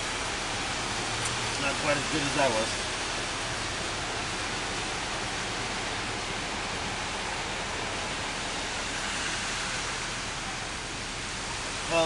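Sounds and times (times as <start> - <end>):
heavy rain and floodwater rushing: 0.0 - 12.0.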